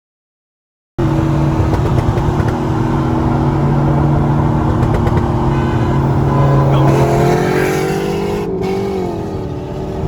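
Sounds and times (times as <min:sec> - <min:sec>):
car engine and exhaust running: 0:01.0 - 0:10.0
road and wind noise: 0:01.0 - 0:10.0.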